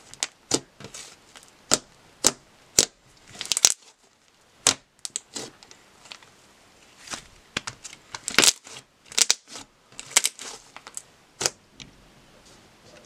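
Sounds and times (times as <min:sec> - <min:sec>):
slime crackling and popping: 0:00.0 - 0:06.2, 0:07.1 - 0:11.6.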